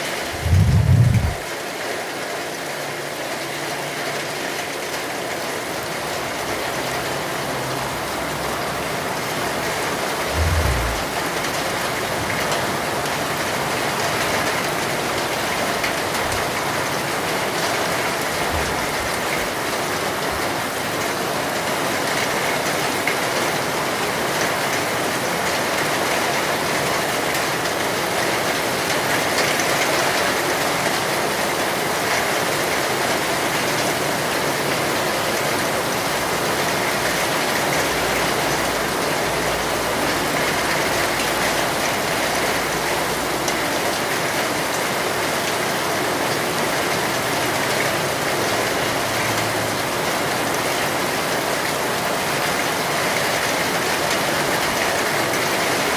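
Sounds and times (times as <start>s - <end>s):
steady rainfall: 0.0s - 55.9s.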